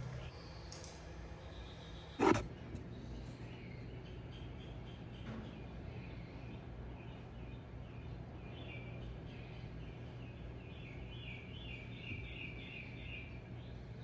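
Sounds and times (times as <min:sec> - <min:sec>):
birds chirping: 0:01.6 - 0:14.0.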